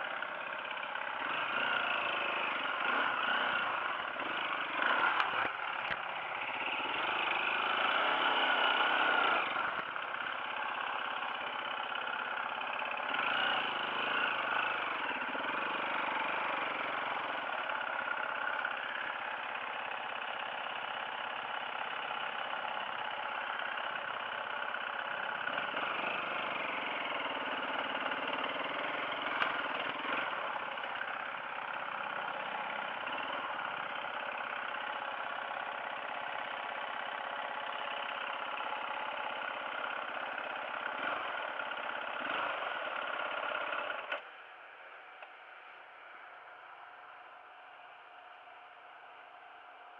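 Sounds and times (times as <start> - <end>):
off-road motorcycle engine: 0.0 - 49.9.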